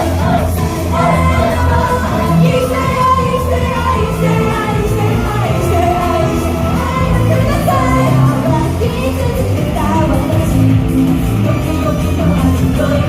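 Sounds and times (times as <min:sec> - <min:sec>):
person singing: 0:00.0 - 0:13.0
pop song backing track: 0:00.0 - 0:13.0.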